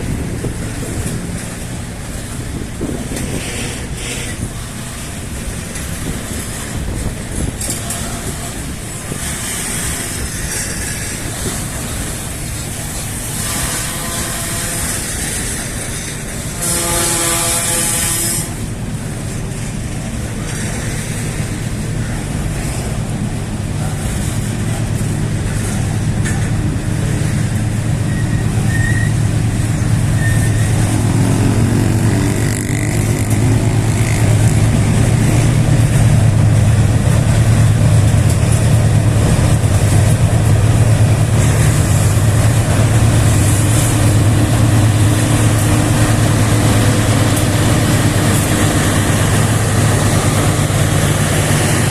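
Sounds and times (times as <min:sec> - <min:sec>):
diesel engines rumbling: 0:00.0 - 0:51.9.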